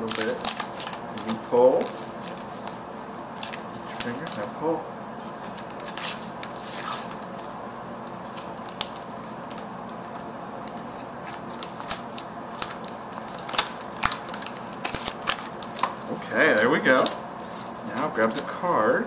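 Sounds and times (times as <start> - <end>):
paper envelope tearing: 0.0 - 4.8, 5.5 - 7.4, 8.3 - 18.4.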